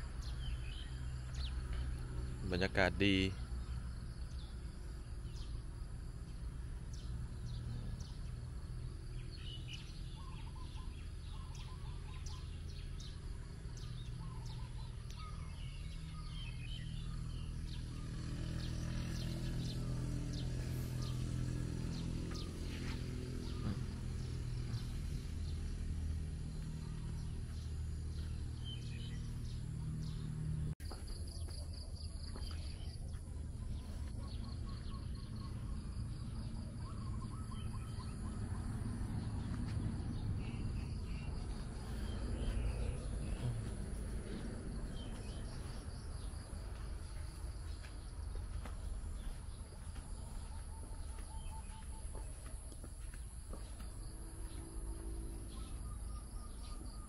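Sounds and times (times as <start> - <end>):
bird chirps: 9.0 - 57.0.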